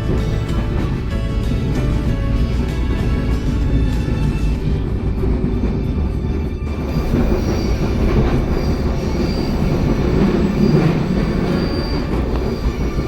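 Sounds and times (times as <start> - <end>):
high-pitched wheel squeals: 0.0 - 13.0
train wheels rumbling on rails: 0.0 - 13.0.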